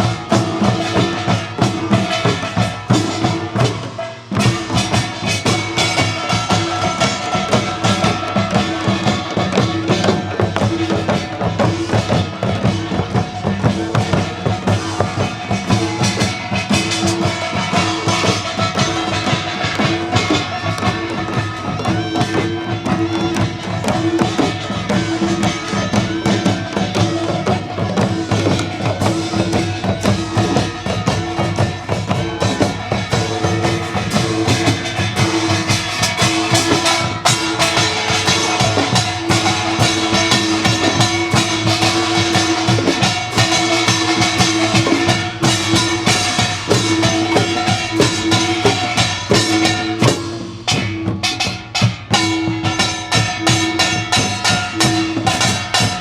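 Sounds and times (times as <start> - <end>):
percussion ensemble fast rhythm: 0.0 - 56.0.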